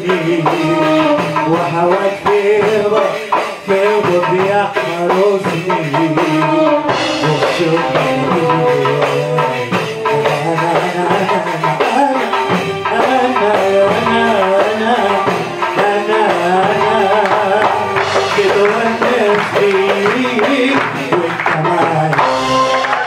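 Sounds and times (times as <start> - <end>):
man singing into a microphone: 0.0 - 22.7
hand drum: 0.0 - 23.0.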